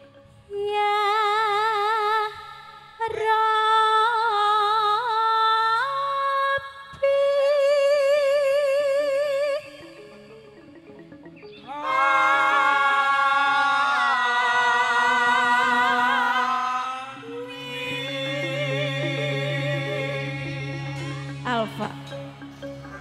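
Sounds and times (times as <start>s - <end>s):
woman singing with vibrato: 0.5s - 10.2s, 11.8s - 22.4s.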